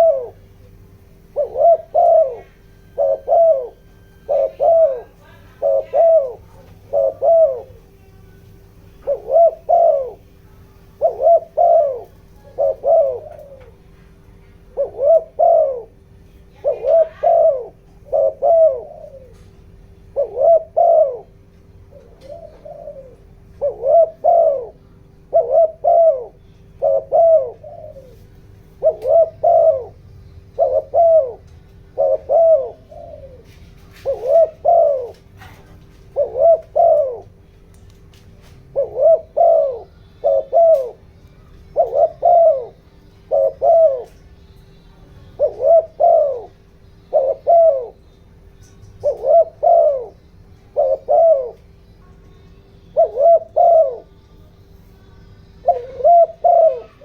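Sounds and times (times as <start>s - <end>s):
dove cooing: 0.0s - 57.0s
faint steady hum: 0.0s - 57.0s.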